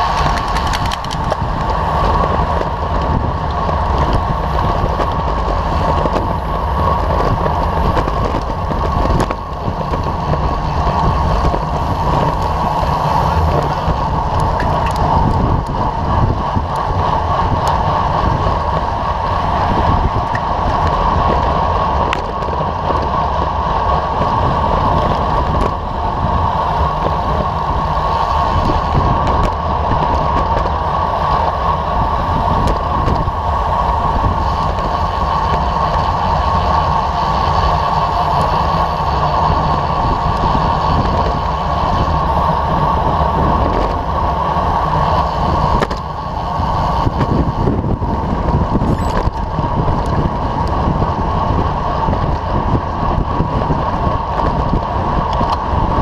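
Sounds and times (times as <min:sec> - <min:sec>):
bike tyres rumbling on asphalt: 0:00.0 - 0:56.0
wind rushing on microphone: 0:00.0 - 0:56.0.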